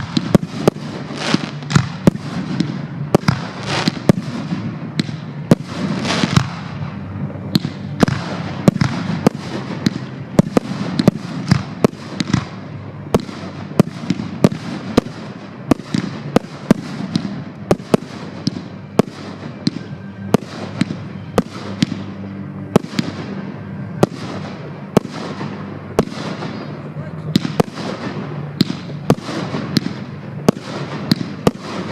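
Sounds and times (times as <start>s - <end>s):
fireworks crackle: 0.0s - 31.9s.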